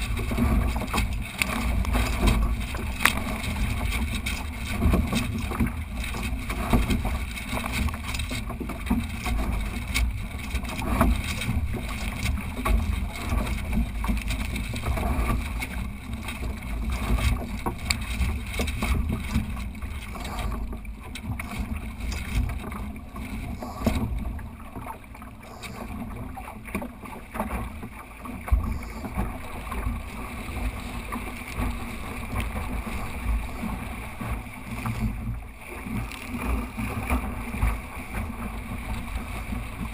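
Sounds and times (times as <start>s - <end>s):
water splashing along a hull: 0.0s - 39.9s.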